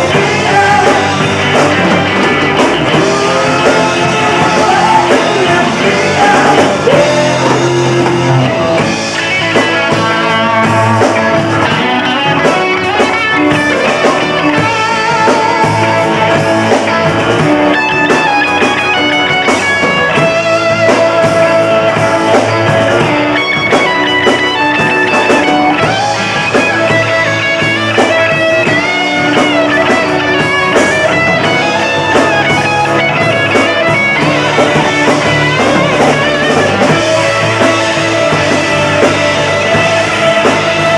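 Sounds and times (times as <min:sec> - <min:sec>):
electric guitar lead bent notes: 0:00.0 - 0:40.9
rock band playing: 0:00.0 - 0:40.9.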